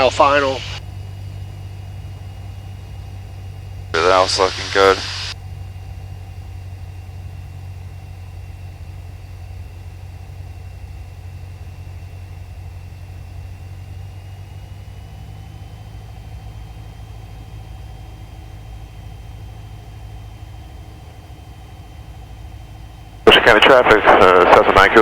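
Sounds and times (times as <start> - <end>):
propeller plane engine in cabin: 0.0 - 25.0.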